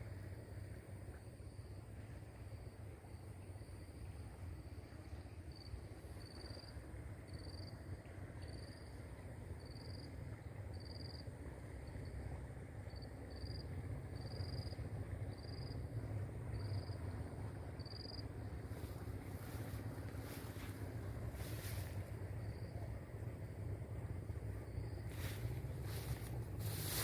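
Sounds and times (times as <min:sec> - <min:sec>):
insects chirping: 0:00.0 - 0:12.2, 0:12.9 - 0:27.0.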